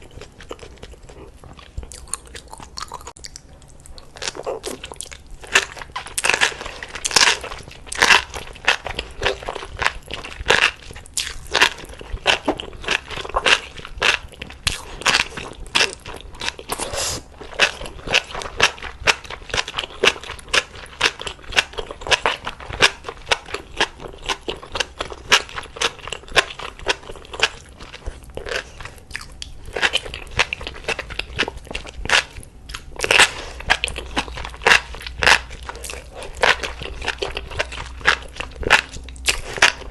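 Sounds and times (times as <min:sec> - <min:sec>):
person crunching and chewing food: 0:00.0 - 0:39.9.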